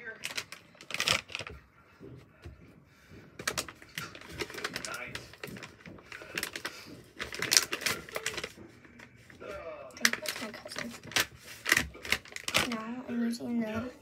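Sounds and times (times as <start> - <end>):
plastic packaging crinkling: 0.0 - 1.6, 3.4 - 13.0.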